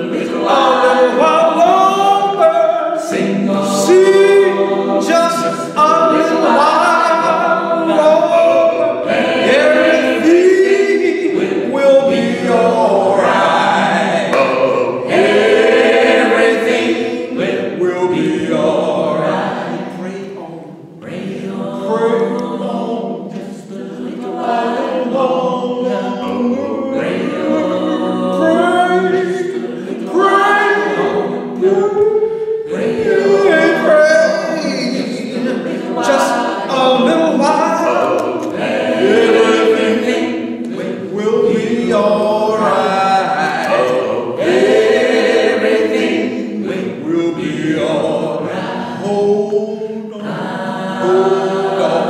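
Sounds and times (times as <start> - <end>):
a cappella group singing in harmony: 0.0 - 52.0.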